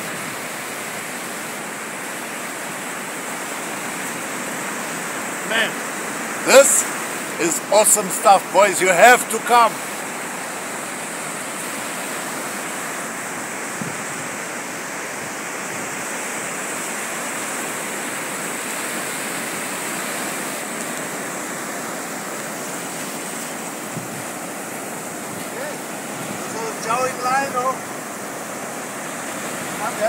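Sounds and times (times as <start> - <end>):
ocean waves washing on beach: 0.0 - 30.0.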